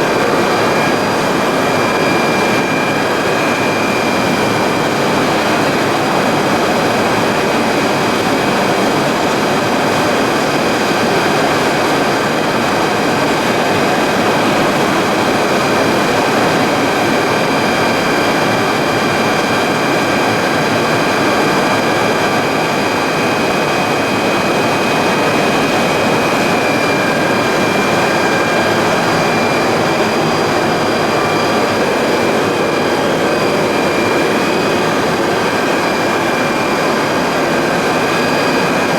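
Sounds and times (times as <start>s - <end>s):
high steady whining tones: 0.0s - 38.9s
industrial machinery noise: 0.0s - 38.9s.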